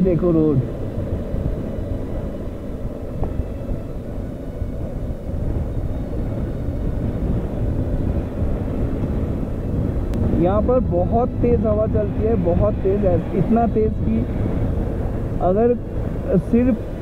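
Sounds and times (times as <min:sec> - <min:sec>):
motorcycle engine cruising: 0:00.0 - 0:17.0
wind rush on microphone: 0:00.0 - 0:17.0.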